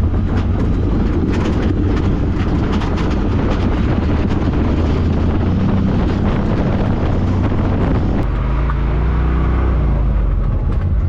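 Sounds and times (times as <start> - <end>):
knocks and rattles: 0.0 - 8.3, 10.3 - 11.0
off-road vehicle engine running: 0.0 - 11.0.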